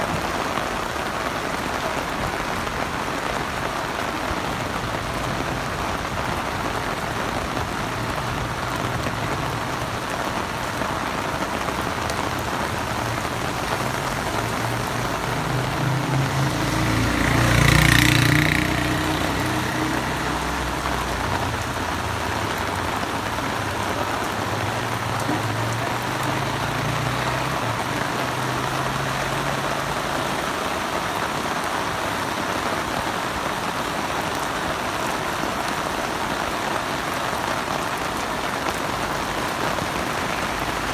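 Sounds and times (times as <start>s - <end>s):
heavy rain falling: 0.0s - 40.9s
motor vehicle passing: 0.2s - 36.0s.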